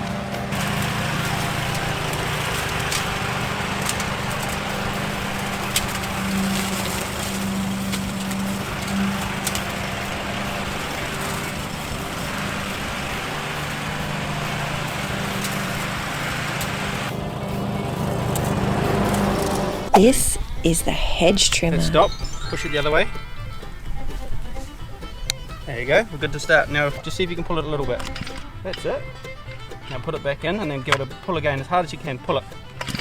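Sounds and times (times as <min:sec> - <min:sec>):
lawn mower engine running: 0:00.0 - 0:20.7, 0:23.3 - 0:33.0.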